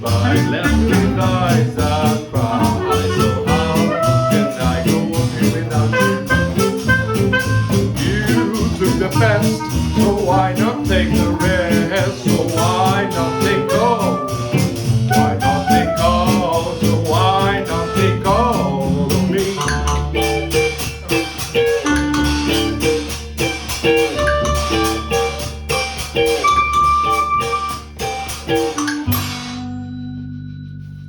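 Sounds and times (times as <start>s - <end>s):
acoustic swing band playing: 0.0s - 29.8s.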